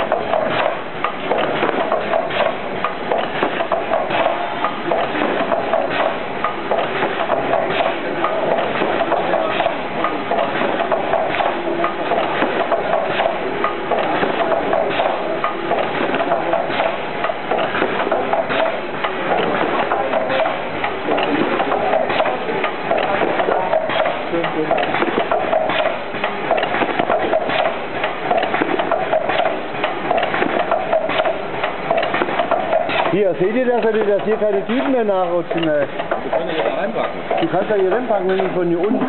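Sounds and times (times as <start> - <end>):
machine clattering: 0.0 - 39.0.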